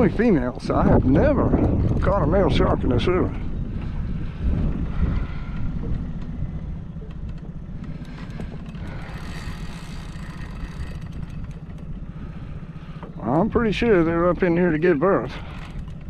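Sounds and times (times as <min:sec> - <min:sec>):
boat rumble: 0:00.0 - 0:16.0.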